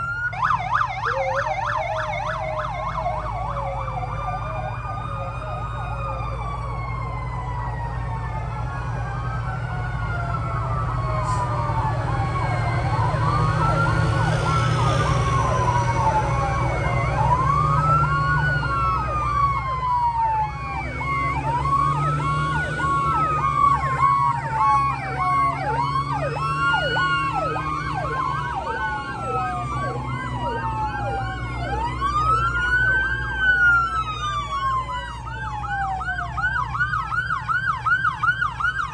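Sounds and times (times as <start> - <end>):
fire truck sirens wailing: 0.0 - 38.9
truck engines rumbling: 0.0 - 38.9.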